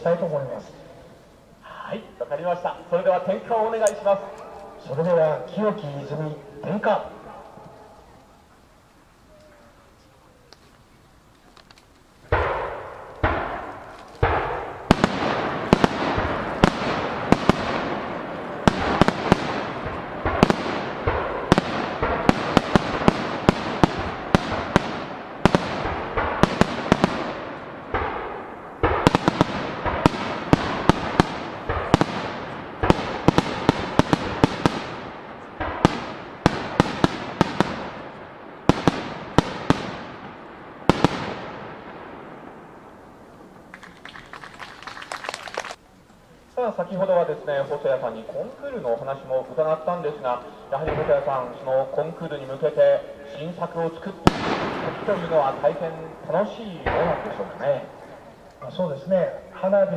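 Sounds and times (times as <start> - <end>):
fireworks bursting with sharp bangs: 0.6 - 45.9, 46.8 - 59.9.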